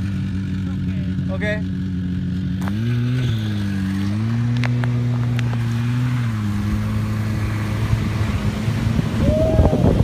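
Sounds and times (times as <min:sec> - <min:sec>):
snowmobile engine running: 0:00.0 - 0:10.0.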